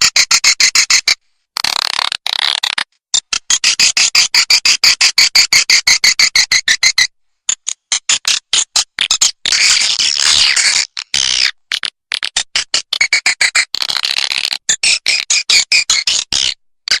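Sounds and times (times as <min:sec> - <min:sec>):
recorded swiftlet chirping clicks: 0:01.9 - 0:17.0.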